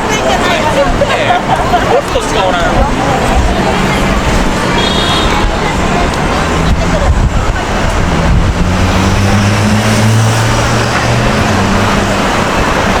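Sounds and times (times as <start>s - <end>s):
city street traffic: 0.0s - 13.0s
vehicle engine running: 0.4s - 13.0s.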